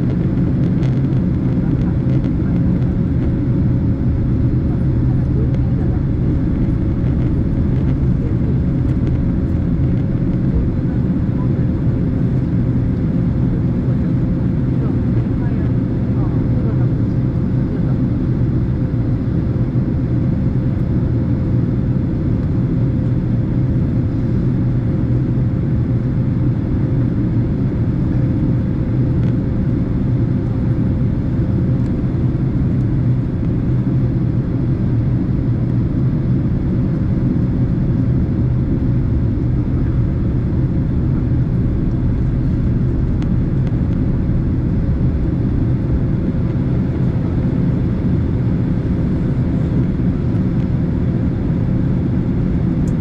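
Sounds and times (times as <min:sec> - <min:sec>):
airliner cabin engine roar: 0:00.0 - 0:53.0.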